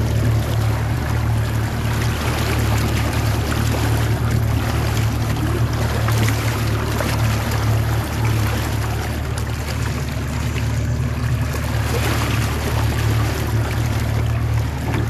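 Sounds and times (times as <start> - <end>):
boat engine humming: 0.0 - 15.0
water rushing and splashing: 0.0 - 15.0.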